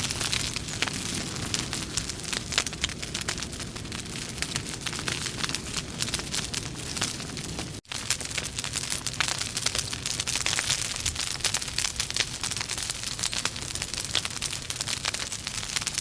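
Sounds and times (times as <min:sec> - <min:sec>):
wood logs crackling in fireplace: 0:00.0 - 0:16.0.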